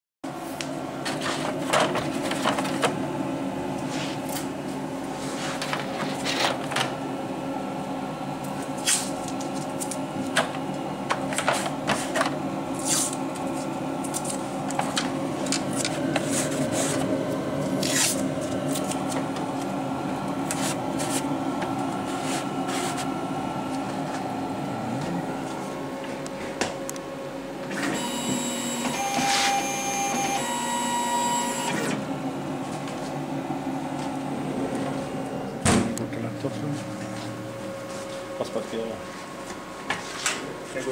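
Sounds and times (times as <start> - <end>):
steady machine hum: 0.2 - 40.9.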